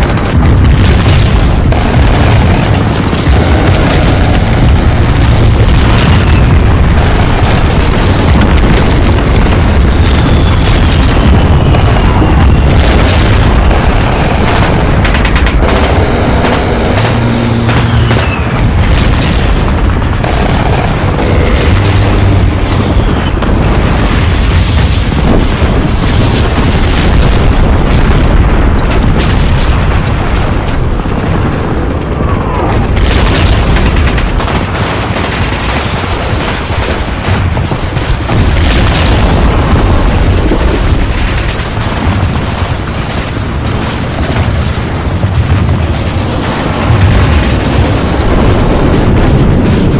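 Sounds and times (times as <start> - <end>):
explosions and artillery booms: 0.0 - 49.9
machine-gun and rifle fire: 0.0 - 49.9.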